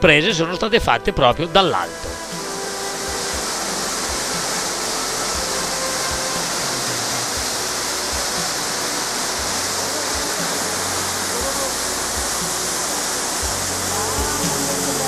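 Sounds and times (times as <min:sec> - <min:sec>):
indoor waterfall rushing: 0:01.8 - 0:15.0.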